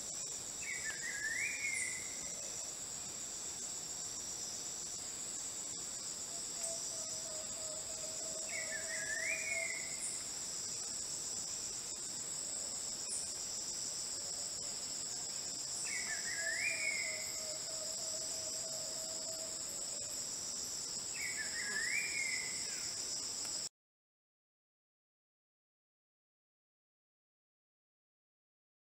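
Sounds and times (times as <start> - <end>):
insects chorus: 0.0 - 23.7.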